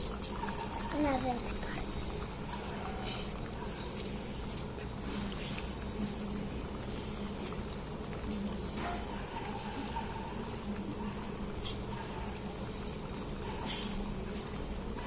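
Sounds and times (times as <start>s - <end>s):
pot of water boiling: 0.0s - 15.0s.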